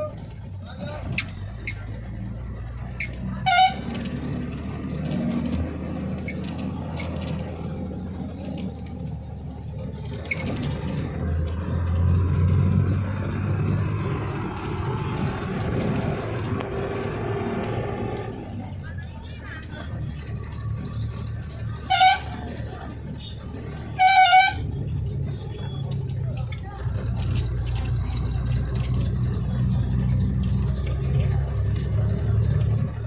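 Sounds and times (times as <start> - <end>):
road noise: 0.0 - 33.0
vehicle engine drone: 0.0 - 33.0.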